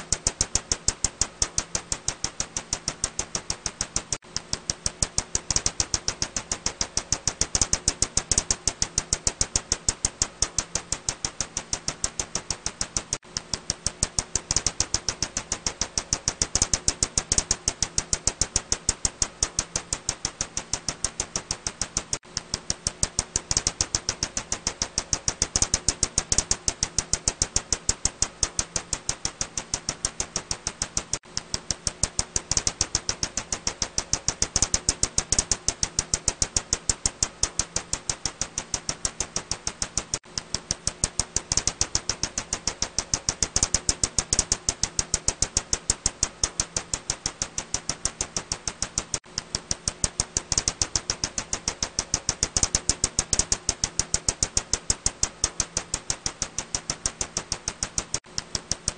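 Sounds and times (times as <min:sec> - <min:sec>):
bat echolocation clicks: 0:00.0 - 0:58.9
faint steady hum: 0:00.0 - 0:58.9.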